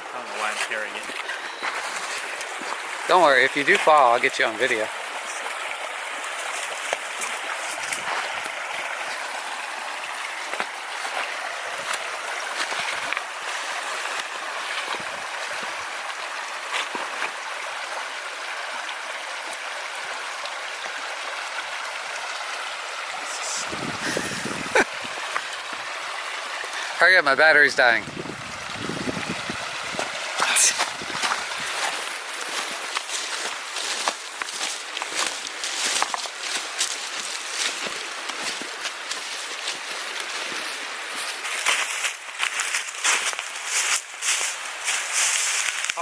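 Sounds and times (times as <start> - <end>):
creek running: 0.0 - 46.0.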